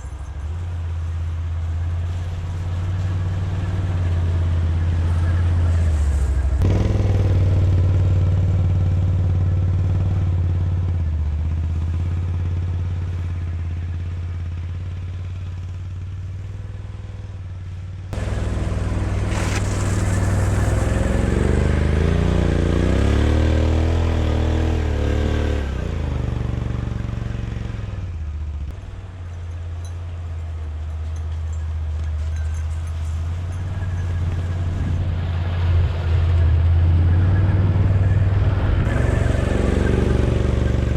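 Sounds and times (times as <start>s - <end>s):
atv engine revving: 2.1s - 17.4s, 18.1s - 29.1s, 33.5s - 40.9s.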